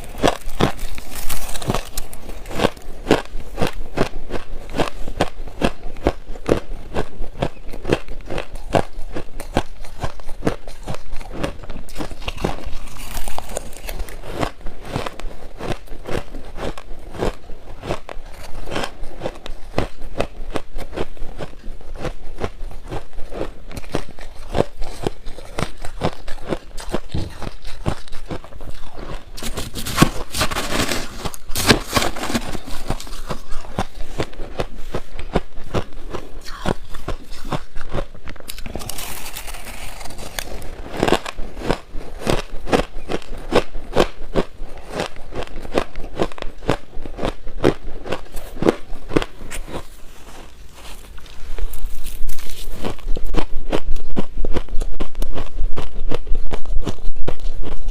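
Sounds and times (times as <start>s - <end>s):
ice being chewed: 0.0s - 57.9s.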